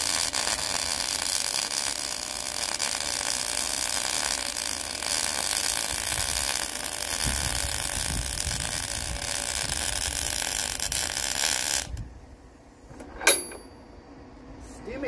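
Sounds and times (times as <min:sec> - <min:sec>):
welding arc crackling: 0:00.0 - 0:12.1.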